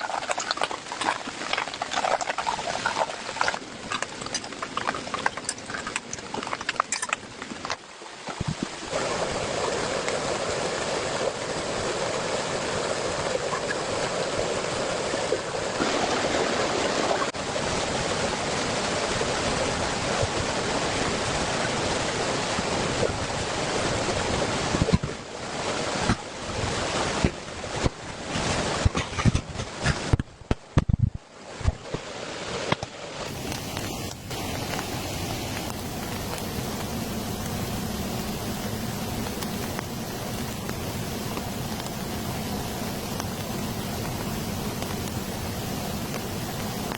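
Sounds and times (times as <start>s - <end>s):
heavy rain pouring: 0.0s - 30.2s, 32.4s - 46.9s.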